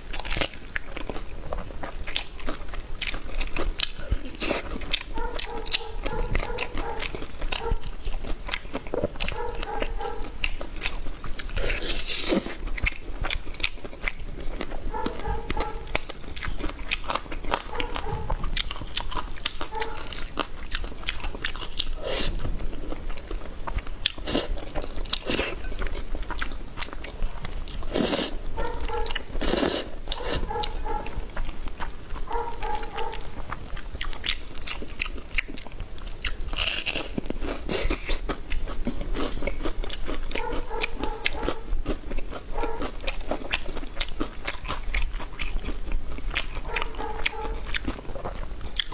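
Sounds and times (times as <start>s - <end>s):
biting and chewing crunchy food: 0.0s - 48.9s.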